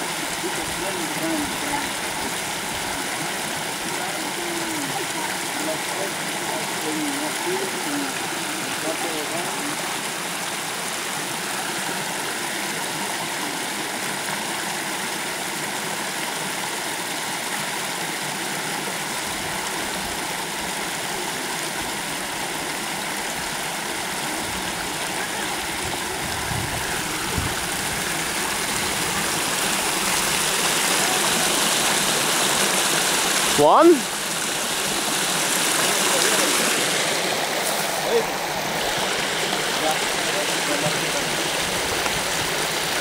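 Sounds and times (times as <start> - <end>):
shallow river water rippling: 0.0 - 43.0.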